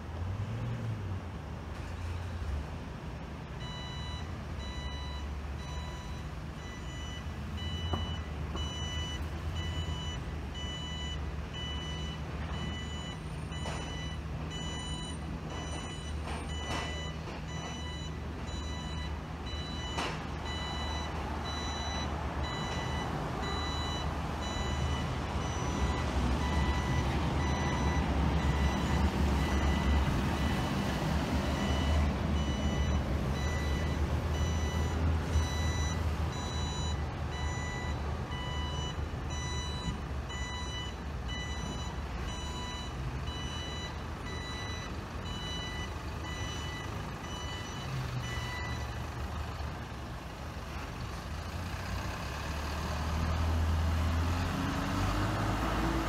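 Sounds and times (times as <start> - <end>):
truck engines running: 0.0 - 56.0
reversing alarm beeping: 3.6 - 49.2.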